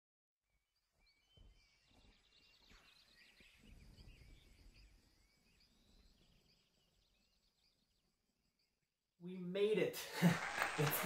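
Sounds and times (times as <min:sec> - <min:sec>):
distant birds chirping: 0:00.5 - 0:09.9.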